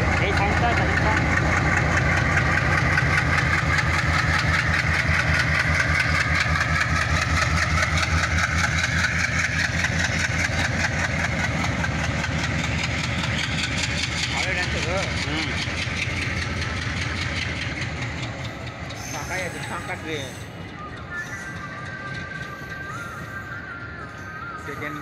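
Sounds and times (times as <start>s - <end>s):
diesel locomotive engine chugging: 0.0s - 25.0s.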